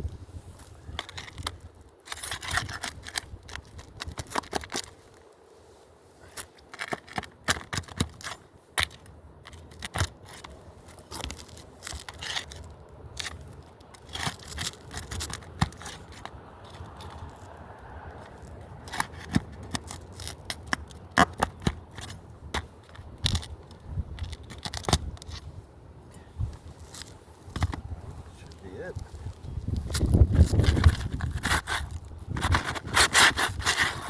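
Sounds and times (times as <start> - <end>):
roof shingles scraping and tearing: 0.9 - 5.2, 6.2 - 25.6, 26.6 - 34.0
shingles cracking: 0.9 - 5.2, 6.2 - 25.5, 29.8 - 34.0.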